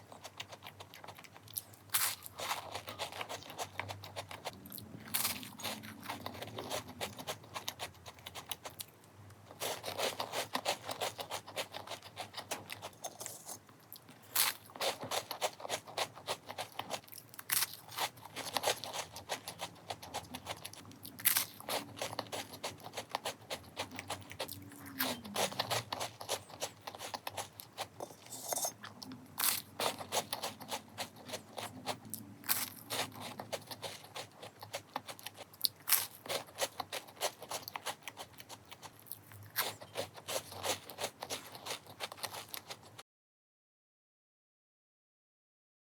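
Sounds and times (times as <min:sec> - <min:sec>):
biscuit crunching and chewing: 0:00.0 - 0:43.0.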